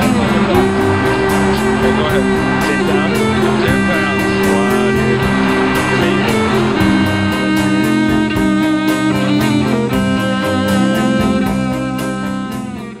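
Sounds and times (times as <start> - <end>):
guitar-led music with drum beat: 0.0 - 13.0.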